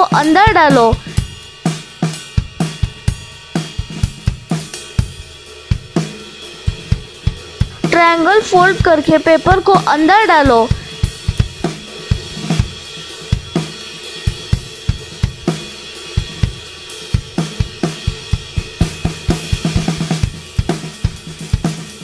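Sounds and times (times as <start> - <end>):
music with drum-kit beat: 0.0 - 22.0.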